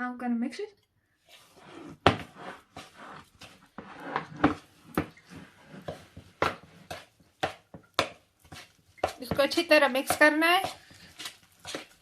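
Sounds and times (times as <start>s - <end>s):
batter mixed in a bowl: 1.1s - 12.0s.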